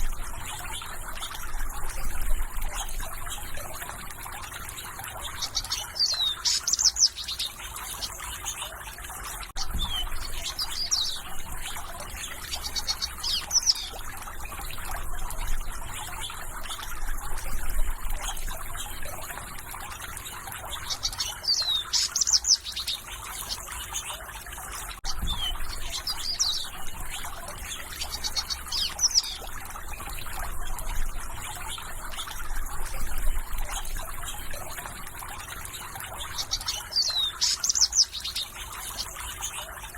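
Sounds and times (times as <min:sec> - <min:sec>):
songbirds chirping and trilling: 0:00.0 - 0:39.9
trickle of running water: 0:00.0 - 0:39.9.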